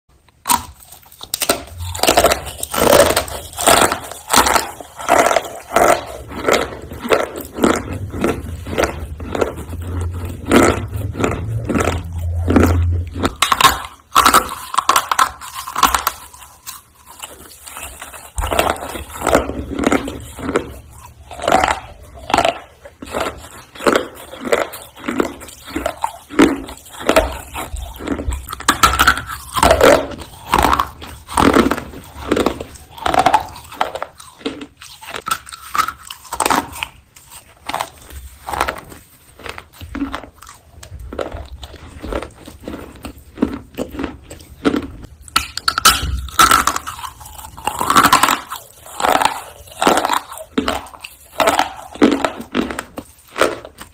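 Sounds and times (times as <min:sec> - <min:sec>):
crunchy chewing: 0:00.2 - 0:53.9.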